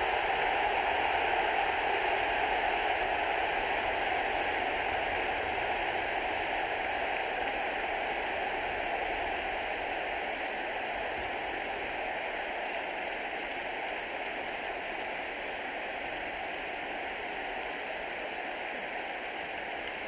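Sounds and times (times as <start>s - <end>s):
stadium crowd cheering: 0.0s - 20.0s.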